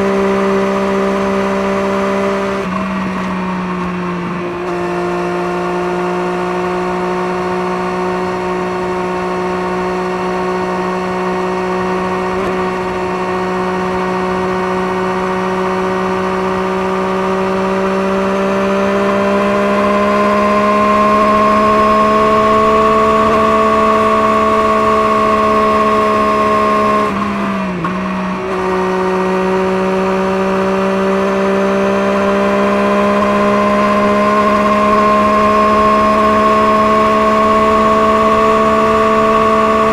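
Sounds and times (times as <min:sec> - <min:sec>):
engine droning at high revs: 0:00.0 - 0:39.9.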